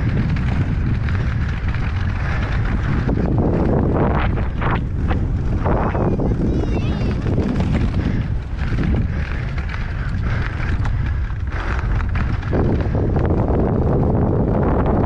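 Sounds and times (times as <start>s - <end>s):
bike rattling and knocking: 0.0s - 15.0s
bike tyre noise: 0.0s - 15.0s
wind rush on camera: 0.0s - 15.0s.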